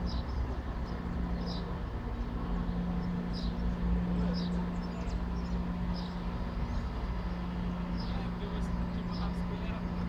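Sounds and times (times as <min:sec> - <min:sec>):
train engine humming: 0:00.0 - 0:10.0.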